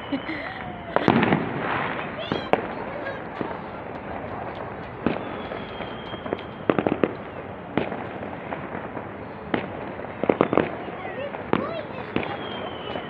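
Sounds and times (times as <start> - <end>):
firecracker bangs: 0.0 - 13.0.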